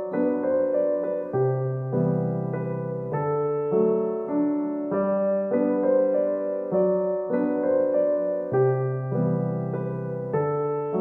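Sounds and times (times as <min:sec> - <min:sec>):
gentle solo piano piece: 0:00.0 - 0:11.0.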